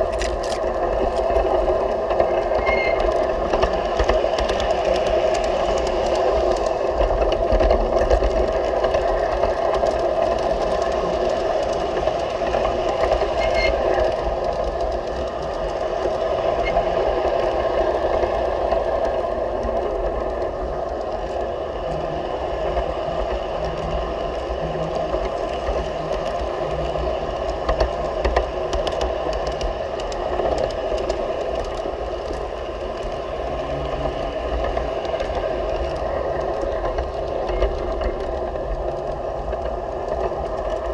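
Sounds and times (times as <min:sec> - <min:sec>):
wheels clicking over rails: 0:00.0 - 0:40.9.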